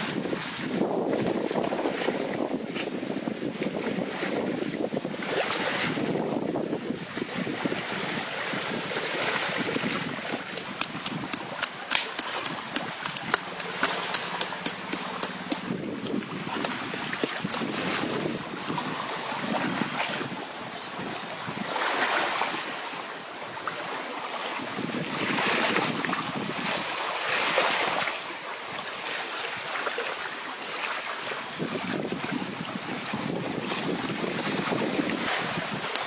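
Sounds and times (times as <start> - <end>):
wind on microphone: 0.0 - 29.7, 31.4 - 36.0
surf washing on shore: 0.0 - 36.0.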